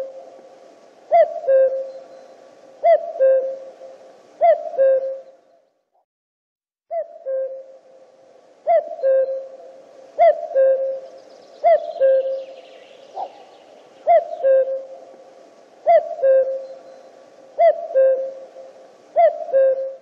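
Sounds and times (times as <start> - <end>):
cuckoo calling: 0.0 - 5.6, 6.9 - 8.0, 8.6 - 20.0.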